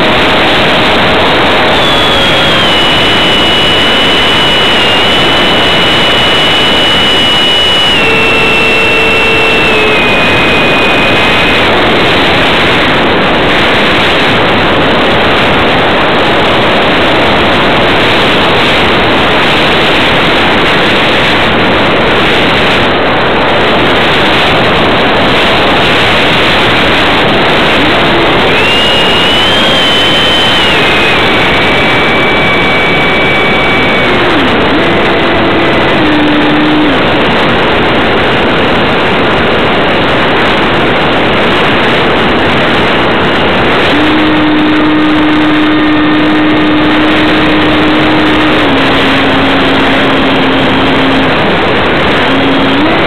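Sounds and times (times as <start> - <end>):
electric fan high whine: 0.0 - 53.0
rush of air: 0.0 - 53.0.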